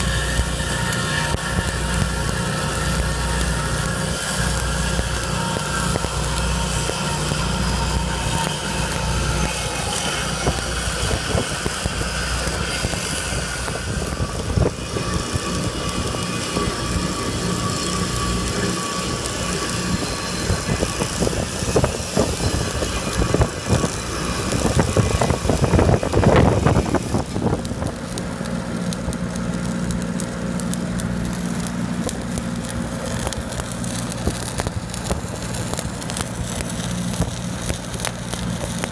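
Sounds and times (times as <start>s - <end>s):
welding arc crackling: 0.0s - 38.9s
welding machine engine running: 0.0s - 38.9s.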